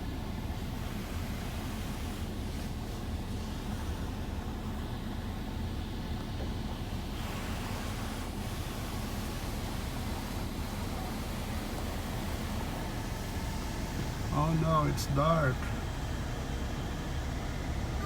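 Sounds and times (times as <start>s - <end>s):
car wash water spray rushing: 0.0s - 18.0s.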